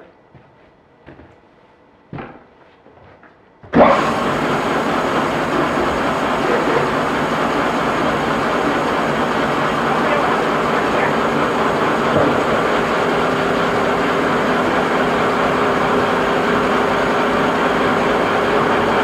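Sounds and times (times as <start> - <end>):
band saw running: 3.8 - 19.0.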